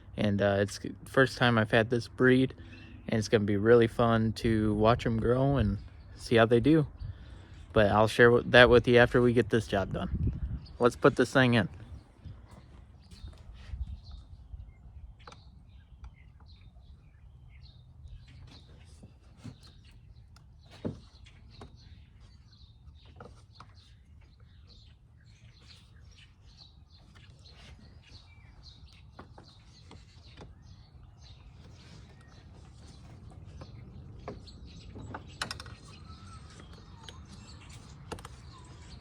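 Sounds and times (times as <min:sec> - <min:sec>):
faint birds chirping: 0:00.0 - 0:39.0.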